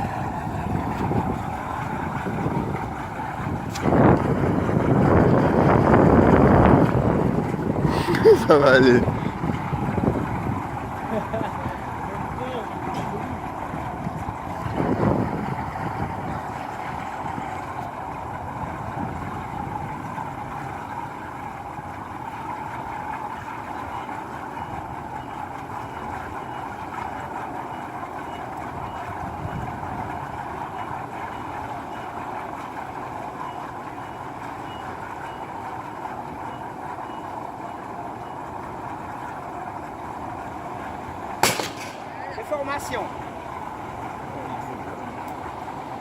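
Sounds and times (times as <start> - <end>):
fire rushing roar: 0.0 - 46.0.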